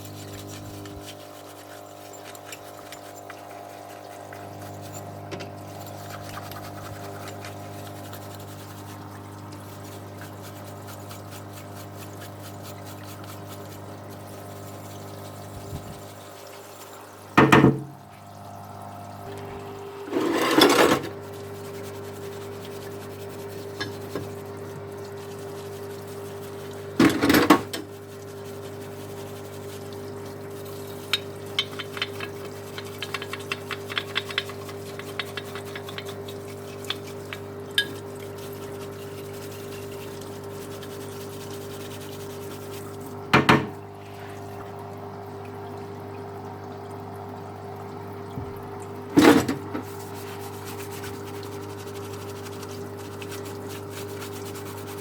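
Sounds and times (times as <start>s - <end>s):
cleaning fluid pouring: 0.0s - 55.0s
pump humming: 0.0s - 55.0s.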